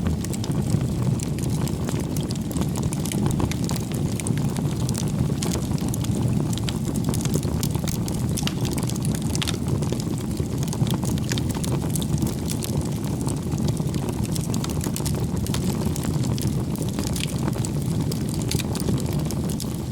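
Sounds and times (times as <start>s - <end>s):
campfire flames roaring: 0.0s - 19.9s
firewood crackling and popping: 0.0s - 19.9s.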